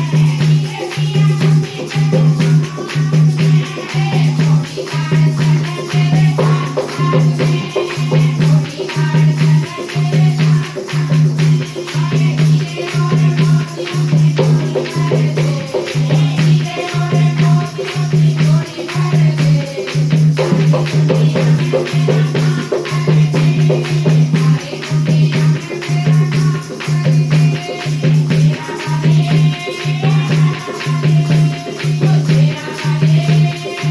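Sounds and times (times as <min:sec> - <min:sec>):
rattling shaker: 0:00.0 - 0:33.9.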